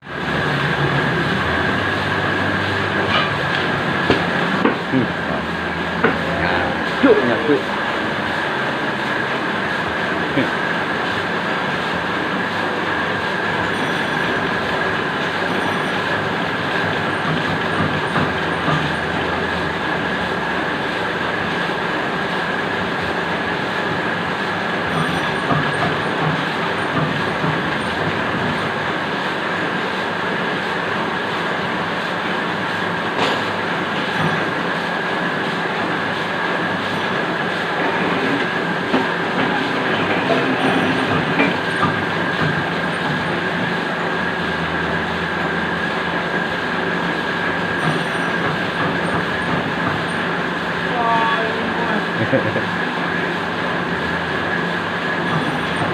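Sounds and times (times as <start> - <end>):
cutting machine whine: 0.1 - 29.4, 33.2 - 51.0.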